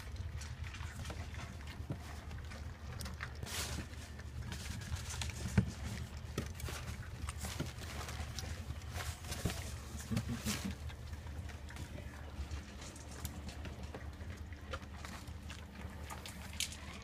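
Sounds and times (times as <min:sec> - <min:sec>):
puppies smacking and lapping: 0:00.0 - 0:17.0
steady low hum: 0:00.0 - 0:17.0.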